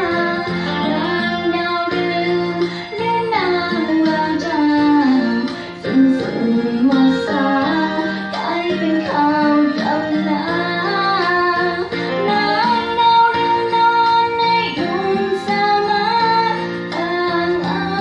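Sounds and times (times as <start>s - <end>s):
guitar accompaniment: 0.0s - 18.0s
woman singing: 0.0s - 18.0s.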